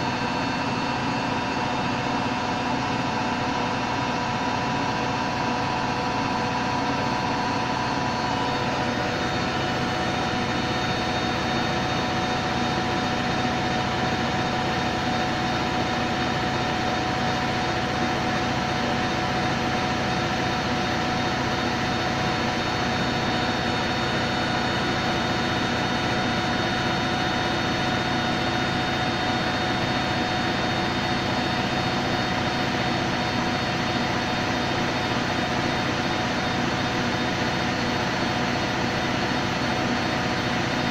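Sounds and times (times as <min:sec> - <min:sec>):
washing machine spin cycle whine: 0:00.0 - 0:40.9.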